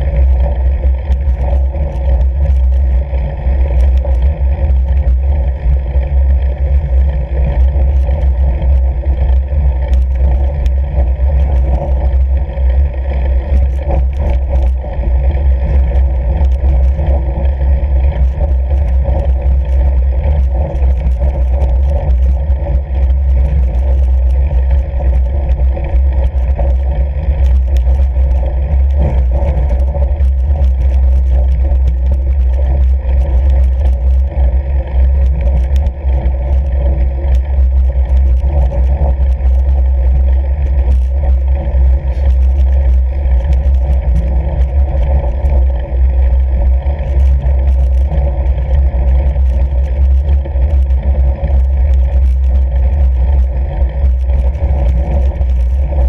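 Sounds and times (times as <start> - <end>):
bike clicks and rattles: 0.0 - 56.0
bike tyres humming on snow: 0.0 - 56.0
wind on microphone: 0.0 - 56.0.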